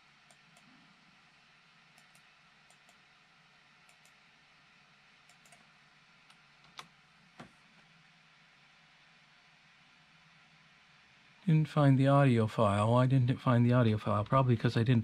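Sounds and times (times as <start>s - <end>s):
low room hiss: 0.0s - 15.0s.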